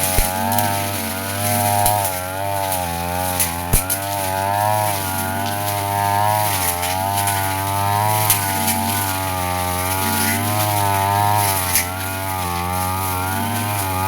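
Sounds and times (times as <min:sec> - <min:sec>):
blade clicking on stems: 0:00.0 - 0:14.0
brush cutter cutting grass: 0:00.0 - 0:14.0.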